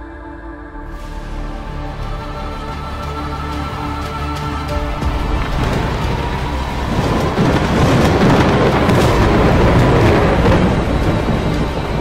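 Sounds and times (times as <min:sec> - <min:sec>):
background music: 0:00.0 - 0:12.0
thunder rumbling: 0:01.2 - 0:12.0.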